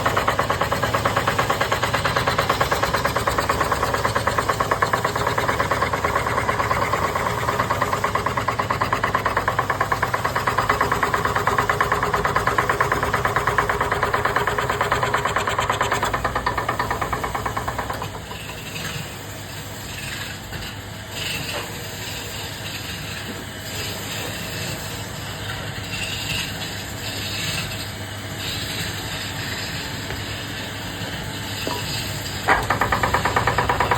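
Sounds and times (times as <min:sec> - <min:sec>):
woodworking machine pulsing: 0:00.0 - 0:19.4, 0:25.8 - 0:33.9.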